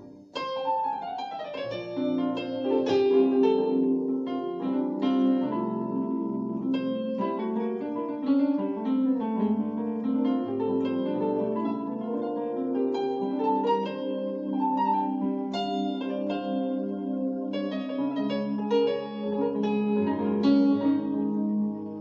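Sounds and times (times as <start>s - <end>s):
keyboard playing chords: 0.0s - 22.0s.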